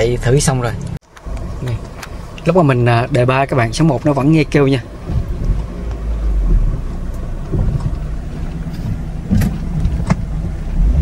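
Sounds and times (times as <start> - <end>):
car low rumble: 0.0 - 11.0
suspension clunks: 0.0 - 11.0.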